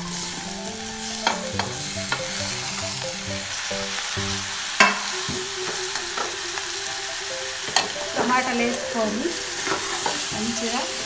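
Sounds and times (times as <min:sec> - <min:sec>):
tomatoes sizzling in oil: 0:00.0 - 0:11.0.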